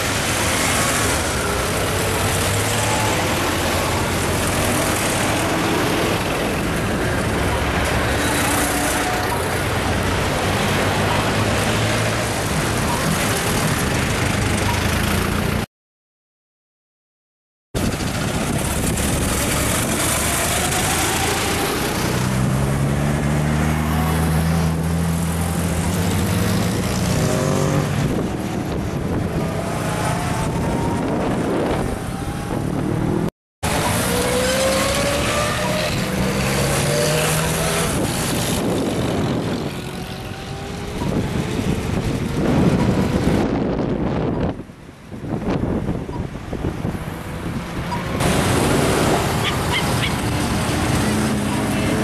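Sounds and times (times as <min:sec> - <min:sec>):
cars driving past: 0:00.0 - 0:15.6, 0:17.8 - 0:44.6, 0:45.2 - 0:52.0
road noise: 0:00.0 - 0:15.7, 0:17.8 - 0:52.0.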